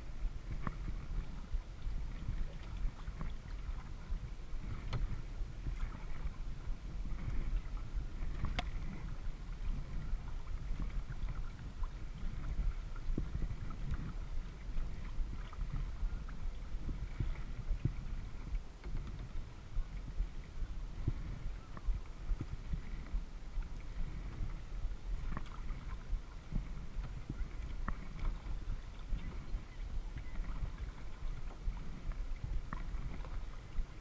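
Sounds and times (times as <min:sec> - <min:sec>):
steady low rumble: 0:00.0 - 0:34.0
water splashing around a kayak: 0:00.0 - 0:34.0.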